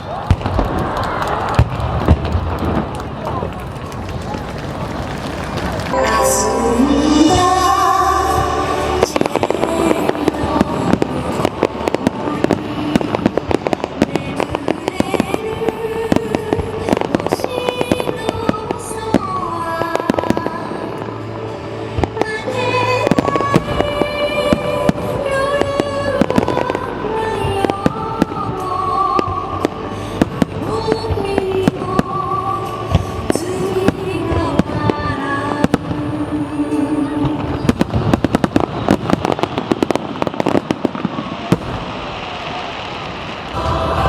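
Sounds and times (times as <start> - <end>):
fireworks bangs and crackles: 0.0 - 44.0
music: 5.9 - 41.8, 43.5 - 44.0.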